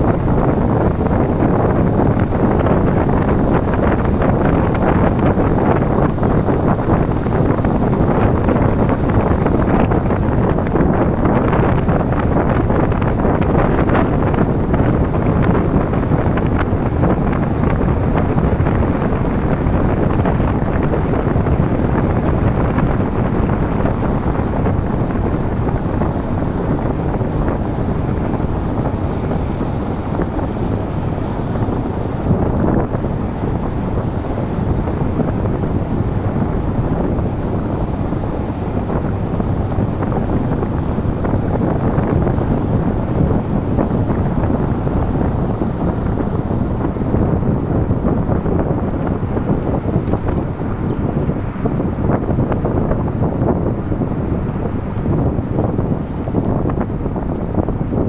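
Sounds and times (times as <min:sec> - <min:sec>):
tyres rumbling on asphalt: 0:00.0 - 0:58.0
wind noise on microphone: 0:00.0 - 0:58.0.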